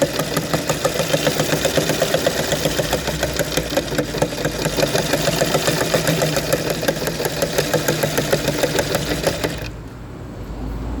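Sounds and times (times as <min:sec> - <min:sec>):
sewing machine stitching: 0:00.0 - 0:10.0.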